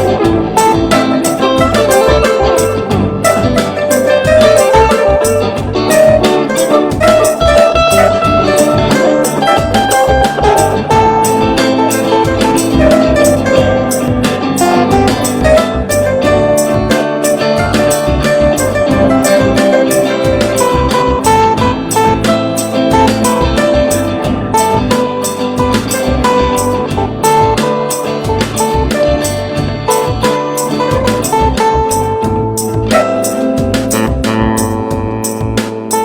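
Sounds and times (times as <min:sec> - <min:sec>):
drums: 0:00.0 - 0:36.0
melodic instruments: 0:00.0 - 0:36.0.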